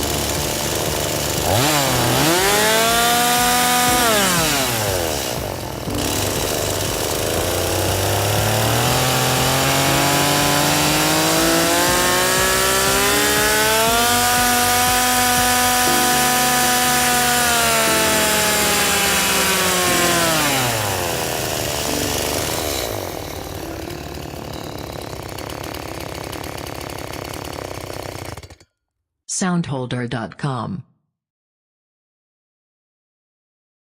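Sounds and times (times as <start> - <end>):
chainsaw engine revving: 0.0 - 28.6.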